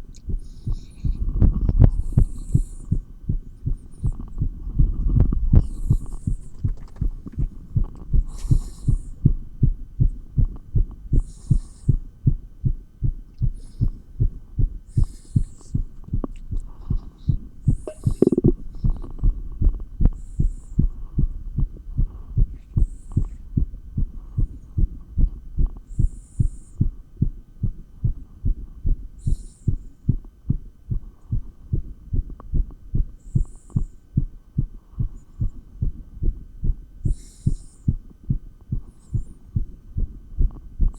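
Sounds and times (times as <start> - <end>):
heartbeat thumps: 0.0 - 40.9.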